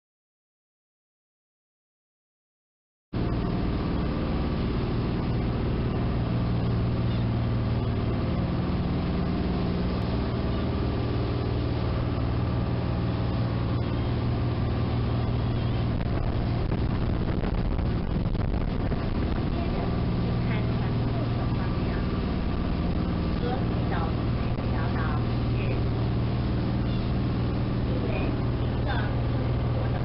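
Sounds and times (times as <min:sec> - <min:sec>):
boat engine humming: 0:03.2 - 0:30.0
water rushing along hull: 0:03.2 - 0:30.0.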